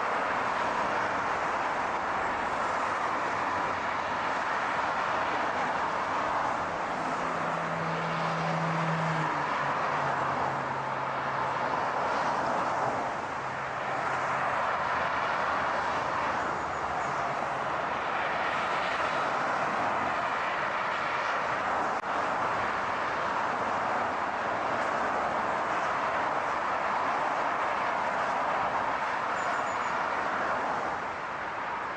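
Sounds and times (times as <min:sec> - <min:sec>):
traffic road noise roar: 0:00.0 - 0:31.9.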